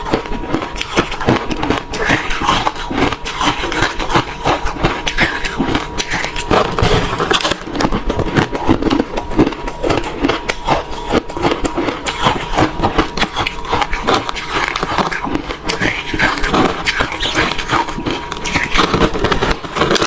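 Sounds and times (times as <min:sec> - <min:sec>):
person chewing crushed ice: 0:00.0 - 0:20.0.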